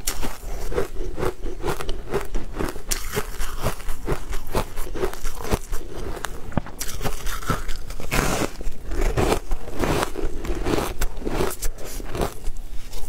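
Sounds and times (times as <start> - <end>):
crunching and chewing ice: 0.0 - 13.0.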